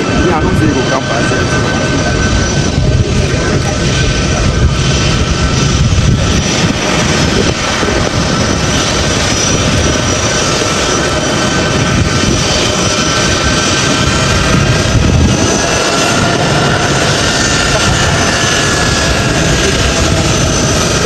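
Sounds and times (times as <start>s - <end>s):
aircraft engines running: 0.0s - 21.0s
high whine: 0.0s - 21.0s.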